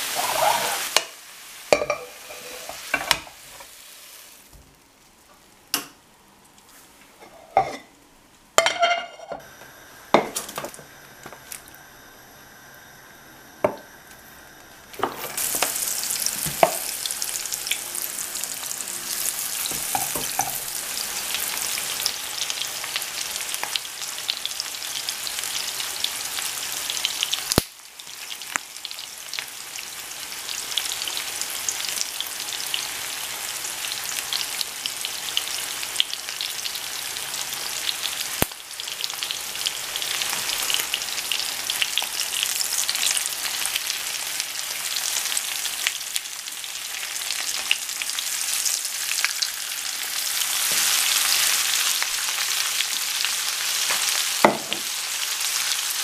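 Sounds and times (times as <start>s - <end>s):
chicken sizzling in oil: 0.0s - 4.6s, 8.6s - 56.0s.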